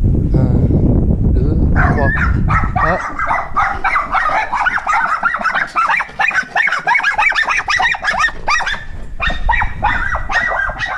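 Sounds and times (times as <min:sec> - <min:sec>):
dog yipping and whining: 0:01.8 - 0:10.9.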